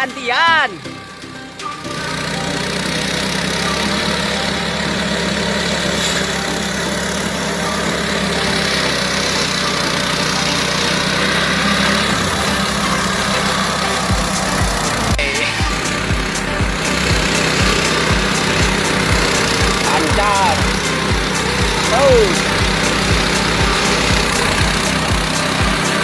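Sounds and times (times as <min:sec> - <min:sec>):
grass chopper engine running: 0:00.0 - 0:26.0.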